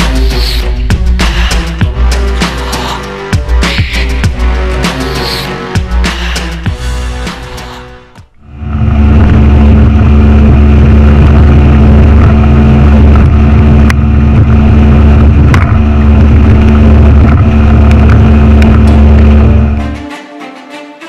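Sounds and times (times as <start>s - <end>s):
boat engine drone: 0.0s - 20.1s.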